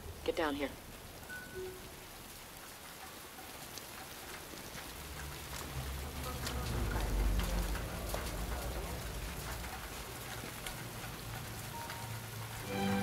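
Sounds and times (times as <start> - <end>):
rain hiss: 0.0 - 13.0
falling drops ticking: 0.1 - 13.0.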